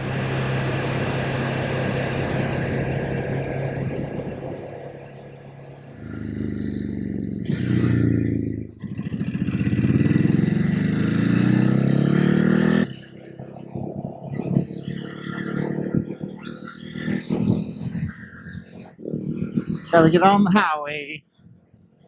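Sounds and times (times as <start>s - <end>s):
motorcycle engine accelerating: 0.0s - 20.3s.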